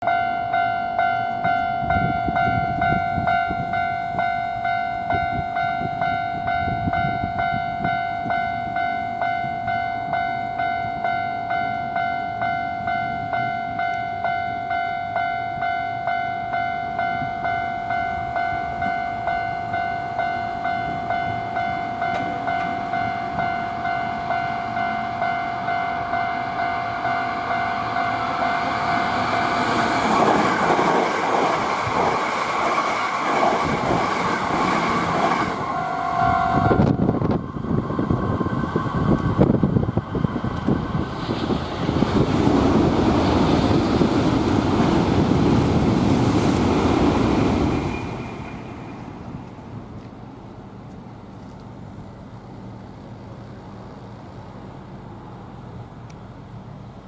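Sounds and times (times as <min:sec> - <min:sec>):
level-crossing warning bell: 0:00.0 - 0:51.2
approaching train: 0:00.0 - 0:57.0.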